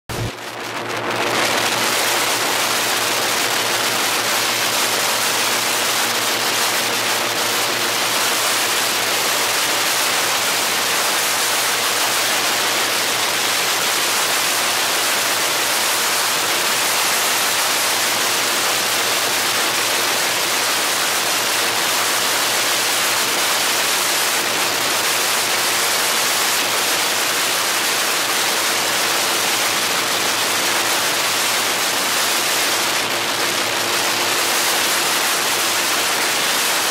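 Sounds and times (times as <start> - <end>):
airboat propeller rushing: 0.1 - 36.9.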